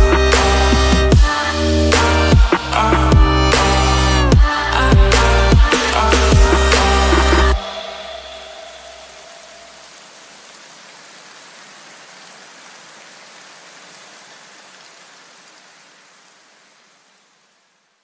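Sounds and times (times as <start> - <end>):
rain-like noise hiss: 0.0 - 18.0.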